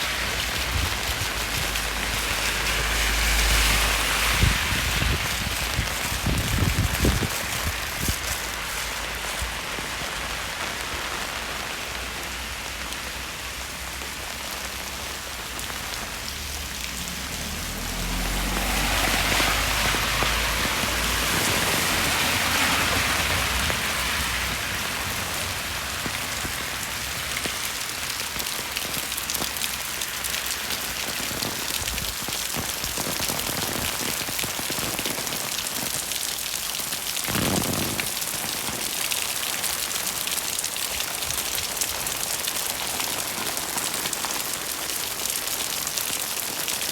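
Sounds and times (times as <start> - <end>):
rain pattering on wet street: 0.0 - 46.9
vehicle passing on wet road: 0.0 - 46.9.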